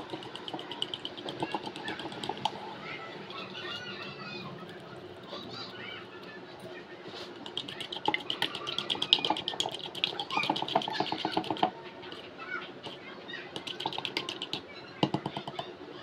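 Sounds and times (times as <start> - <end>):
fork whisking egg in bowl: 0.0 - 5.7, 7.3 - 15.7.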